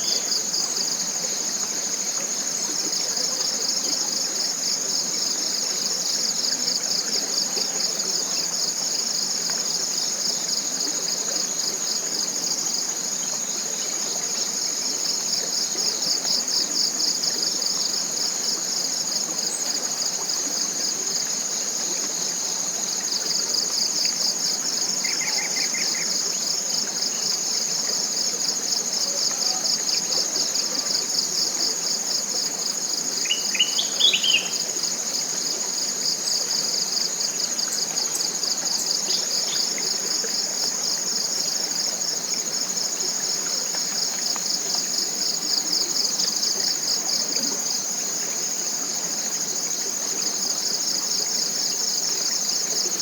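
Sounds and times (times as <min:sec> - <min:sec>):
insects high hum: 0:00.0 - 0:53.0
insects pulsing buzz: 0:00.0 - 0:53.0.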